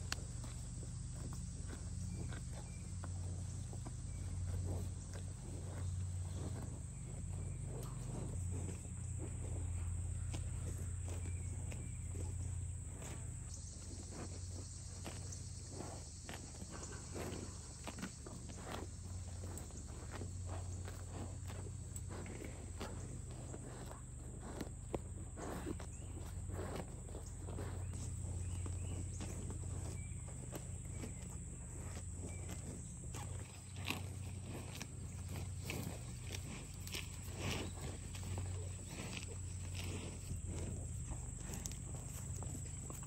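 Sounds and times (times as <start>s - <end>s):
hooves shifting on grass: 0.0s - 43.0s
insects trilling: 0.0s - 43.0s
steady low hum: 0.0s - 43.0s.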